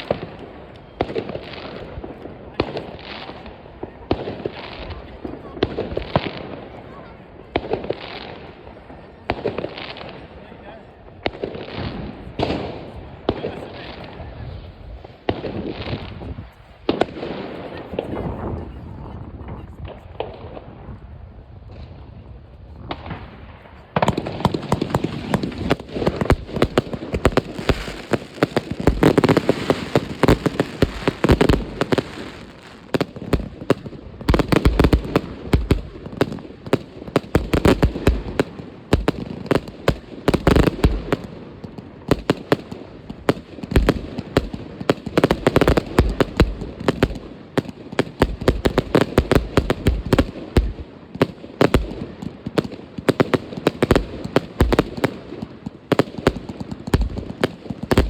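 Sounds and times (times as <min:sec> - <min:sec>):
fireworks banging and crackling: 0:00.0 - 0:18.8, 0:22.8 - 0:58.0.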